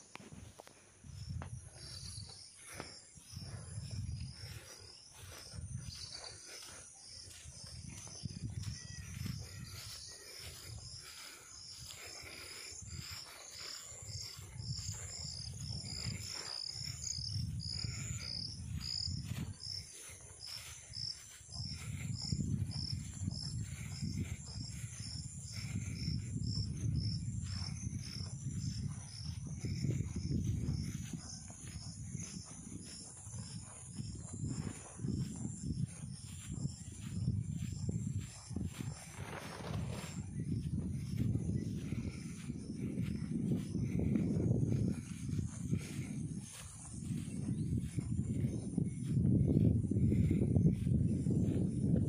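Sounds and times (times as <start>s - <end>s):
insects chirping: 0.0s - 52.0s.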